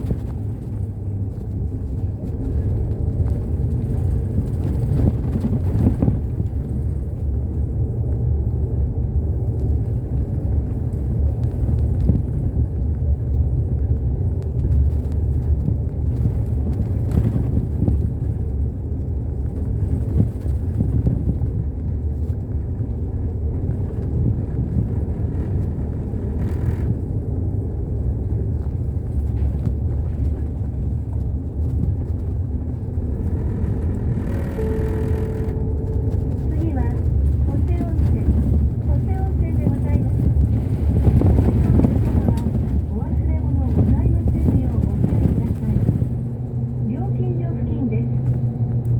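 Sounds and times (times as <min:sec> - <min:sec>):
bus engine and road noise: 0:00.0 - 0:48.9.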